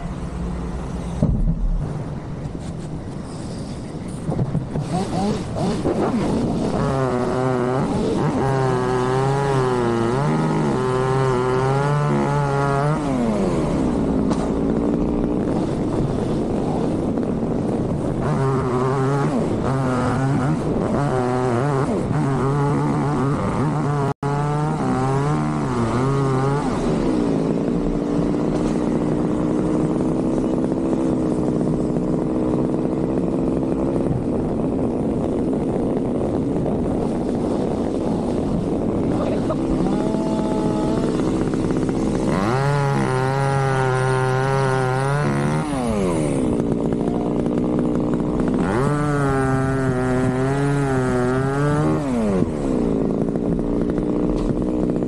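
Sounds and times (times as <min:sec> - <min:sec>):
chainsaw cutting at high revs: 0:04.7 - 0:55.0.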